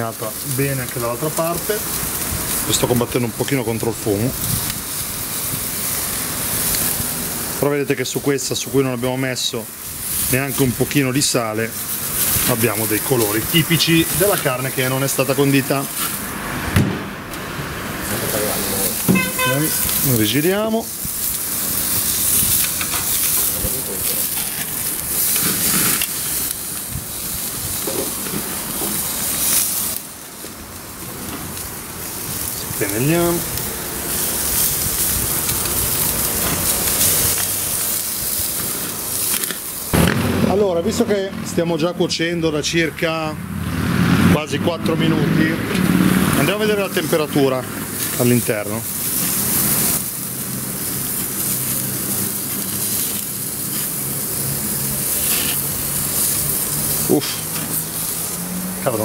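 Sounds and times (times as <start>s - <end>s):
steak sizzling on a grill: 0.0s - 59.0s.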